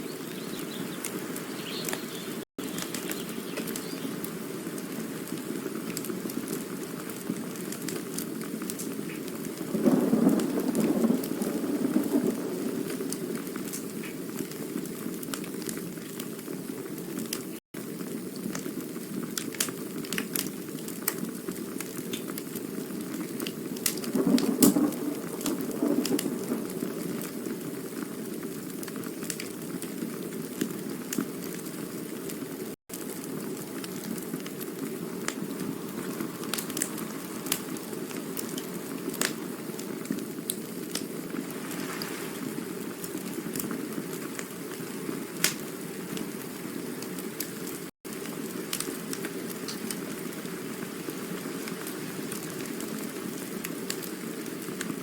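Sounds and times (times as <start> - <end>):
burning wood crackling: 0.0 - 55.0
campfire flame hissing: 0.0 - 55.0.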